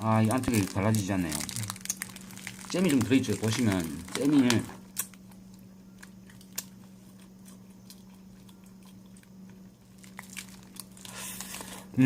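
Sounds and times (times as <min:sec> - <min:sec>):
steady low hum: 0:00.0 - 0:12.0
person chewing bread: 0:01.6 - 0:11.9.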